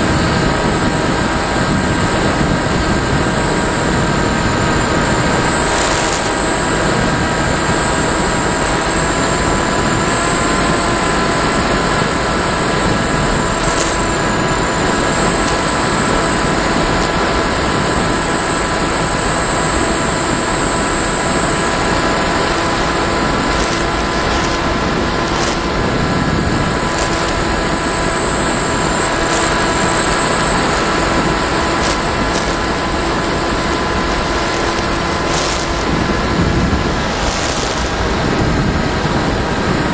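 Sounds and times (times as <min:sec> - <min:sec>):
high motor whine: 0:00.0 - 0:39.9
rush of air: 0:00.0 - 0:39.9
steady tones: 0:00.0 - 0:39.9.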